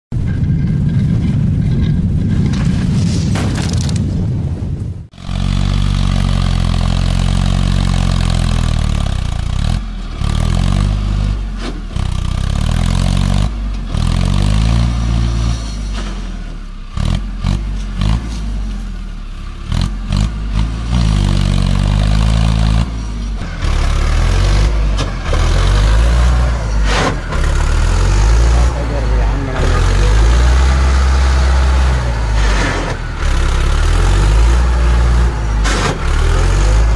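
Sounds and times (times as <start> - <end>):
tractor diesel engine revving: 5.1 - 36.9.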